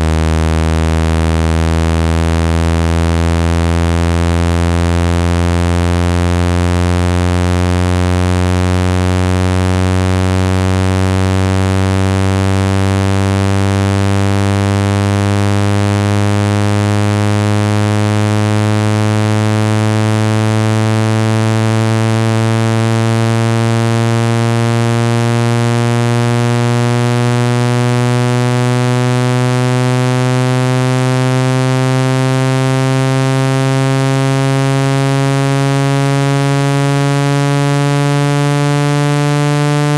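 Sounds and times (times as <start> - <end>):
low buzzing tone rising in pitch: 0.0 - 39.9.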